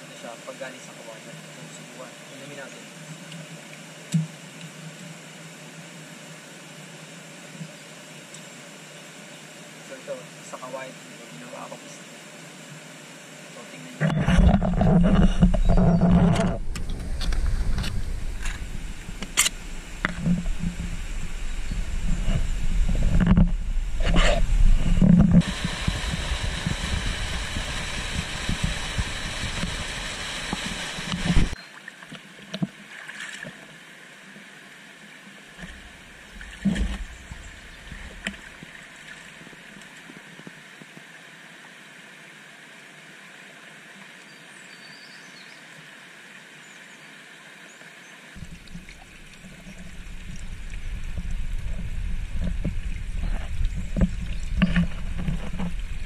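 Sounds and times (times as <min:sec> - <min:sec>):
river water running: 0:00.0 - 0:56.0.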